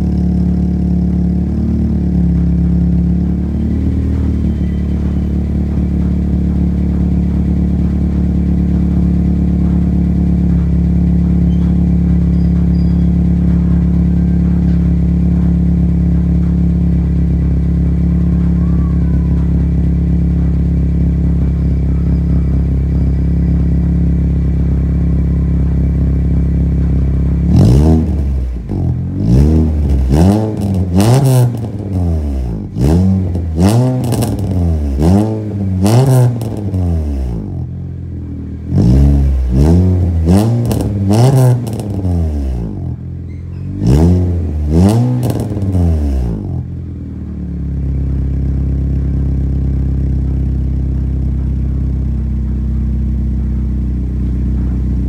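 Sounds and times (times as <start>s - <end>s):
car exhaust idling and revving: 0.0s - 55.0s.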